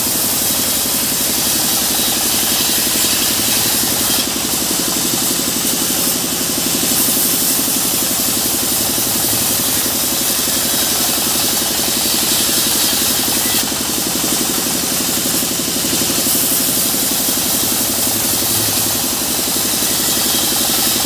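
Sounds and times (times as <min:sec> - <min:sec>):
saw cutting wood: 0:00.0 - 0:21.0.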